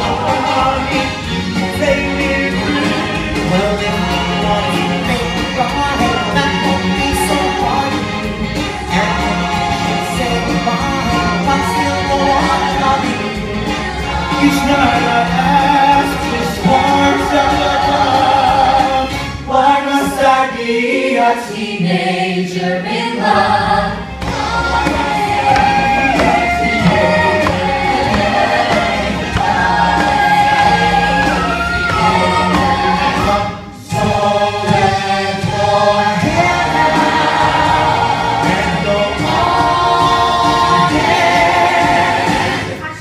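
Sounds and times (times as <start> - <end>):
backing music: 0.0 - 43.0
voices singing in harmony: 0.0 - 43.0.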